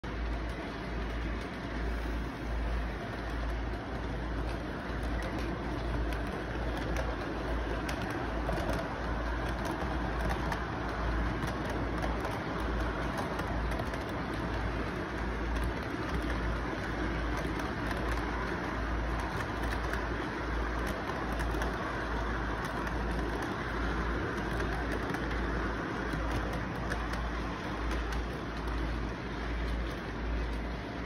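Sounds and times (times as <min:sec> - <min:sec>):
model train rolling on track: 0:00.0 - 0:31.0.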